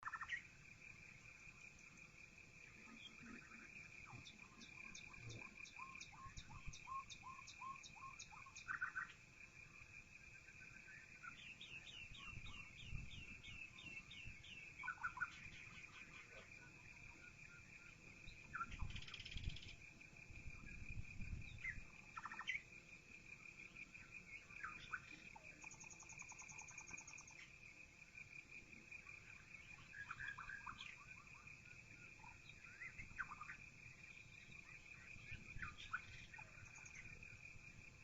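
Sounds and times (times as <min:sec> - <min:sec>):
birds chirping: 0:01.3 - 0:09.2, 0:09.8 - 0:19.8, 0:20.5 - 0:22.7, 0:23.5 - 0:27.7, 0:29.0 - 0:37.5.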